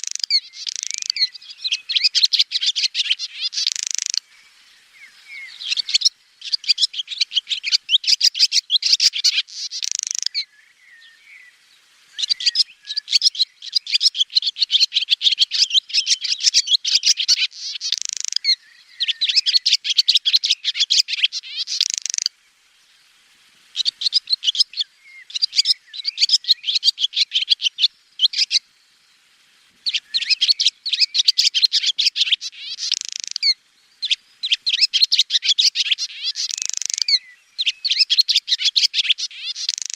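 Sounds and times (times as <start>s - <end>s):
swallow twittering: 0.0s - 11.5s, 12.2s - 22.3s, 23.8s - 28.6s, 29.8s - 39.9s.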